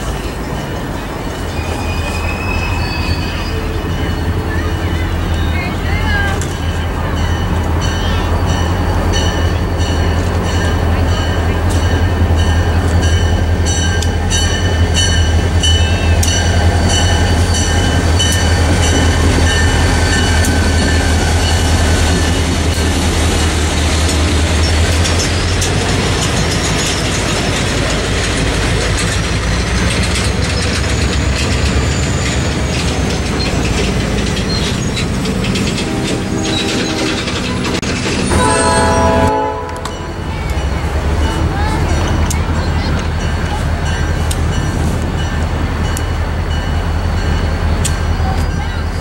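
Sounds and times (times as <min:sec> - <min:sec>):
diesel locomotive engine drone: 0:00.0 - 0:49.0
wheels rolling on rails: 0:00.0 - 0:49.0.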